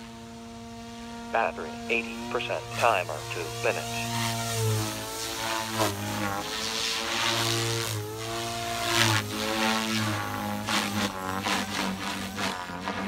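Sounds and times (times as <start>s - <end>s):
electric motor whine: 0.0s - 13.0s
helicopter rotor blades humming: 0.0s - 13.0s.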